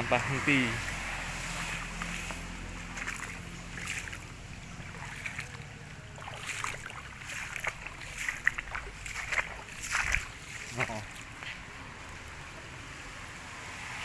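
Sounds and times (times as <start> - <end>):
low water rumble: 0.0 - 14.0
small water splashes: 0.0 - 14.0.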